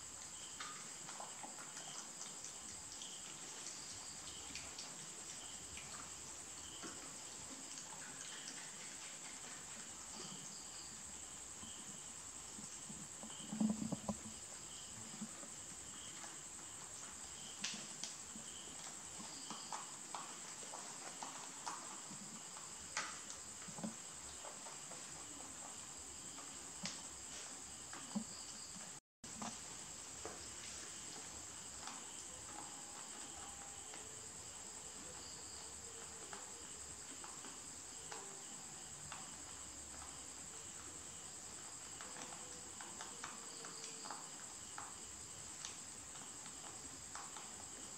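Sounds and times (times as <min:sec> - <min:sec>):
cricket chirping: 0:00.0 - 0:47.9
steady hiss: 0:00.0 - 0:47.9.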